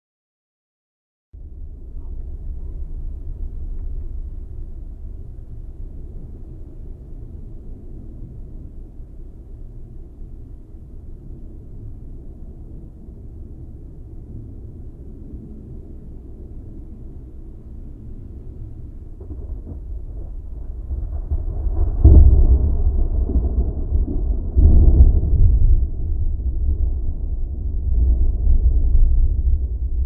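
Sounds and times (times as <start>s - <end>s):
rolling thunder: 1.4s - 30.0s.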